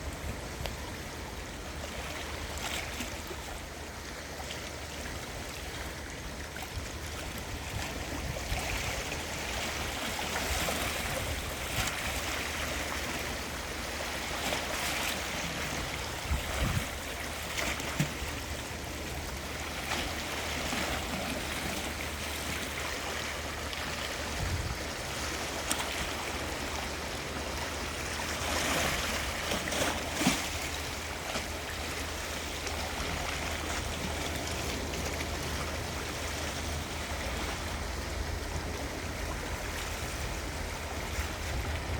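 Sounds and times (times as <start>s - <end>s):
sea waves washing ashore: 0.0s - 41.9s
water splashes: 1.7s - 41.9s.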